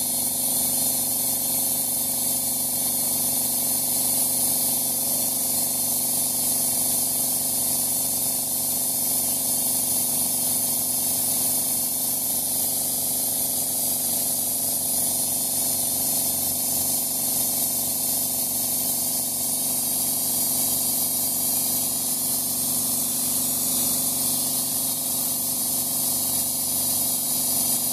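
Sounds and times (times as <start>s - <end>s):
paint sprayer spray hiss: 0.0s - 27.9s
sprayer motor hum: 0.0s - 27.9s.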